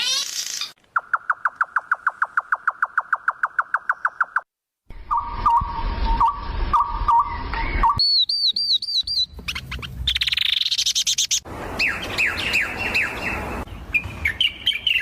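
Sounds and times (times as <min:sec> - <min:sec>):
falling bird chirps: 0:00.0 - 0:15.0
high bird chirps: 0:00.0 - 0:15.0.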